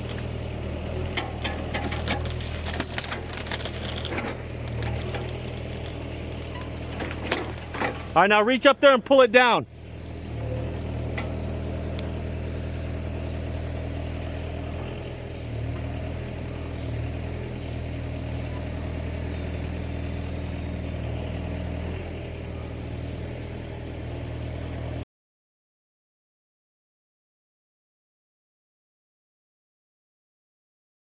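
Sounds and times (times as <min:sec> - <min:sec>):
grapple machine engine running: 0:00.0 - 0:25.0.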